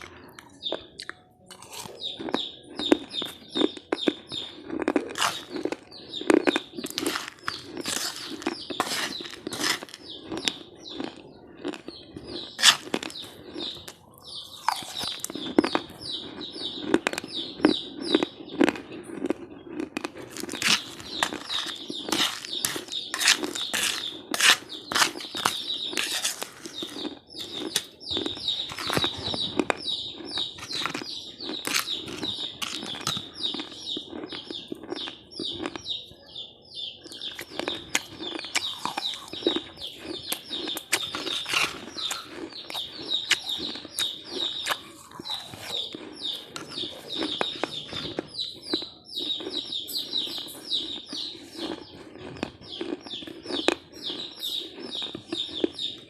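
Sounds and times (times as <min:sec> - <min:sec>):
person chewing crunchy food: 0:00.0 - 0:36.3, 0:37.0 - 0:56.0.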